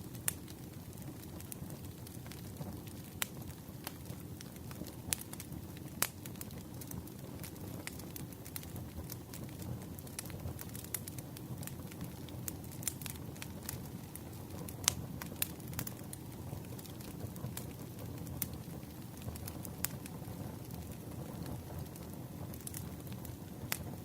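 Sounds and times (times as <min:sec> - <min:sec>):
campfire crackling: 0:00.0 - 0:24.0
fire pops and snaps: 0:00.0 - 0:24.0.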